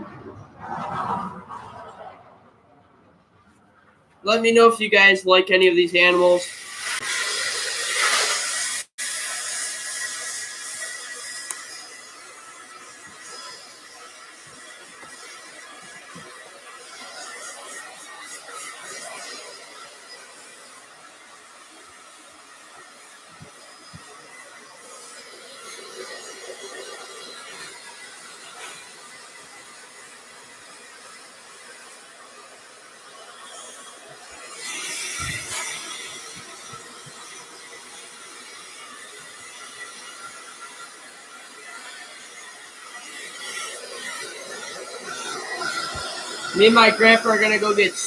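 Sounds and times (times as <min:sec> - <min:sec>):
air appliance rushing whine: 0:00.0 - 0:48.0
hair dryer running: 0:06.0 - 0:48.0.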